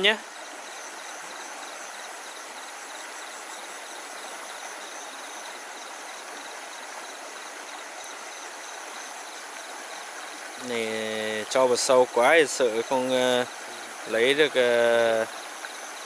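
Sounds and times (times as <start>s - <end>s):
insects chirping: 0.0s - 16.0s
stream water rushing: 0.0s - 16.0s.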